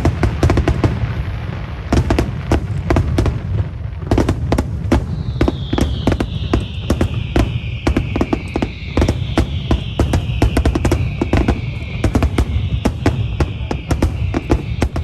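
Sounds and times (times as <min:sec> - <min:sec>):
falling hiss: 0:00.0 - 0:15.0
fireworks bangs: 0:00.0 - 0:15.0.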